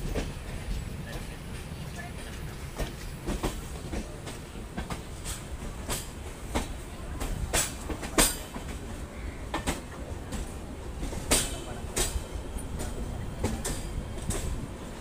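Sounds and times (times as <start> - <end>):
train rumbling on rails: 0.0 - 15.0
wheels clicking over rail joints: 0.0 - 15.0.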